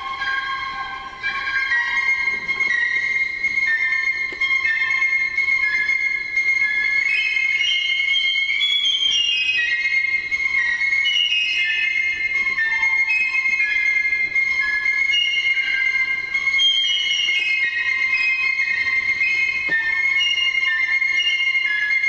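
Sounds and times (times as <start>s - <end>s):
piccolo playing slow melody: 0.0s - 22.0s.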